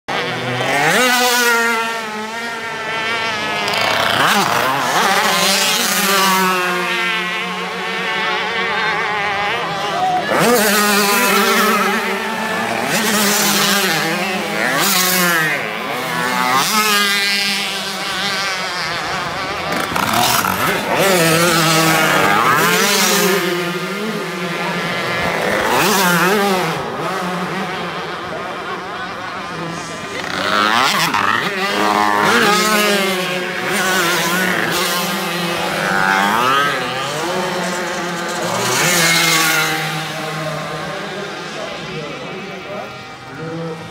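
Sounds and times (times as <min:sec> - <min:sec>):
mopeds passing by: 0:00.1 - 0:43.9.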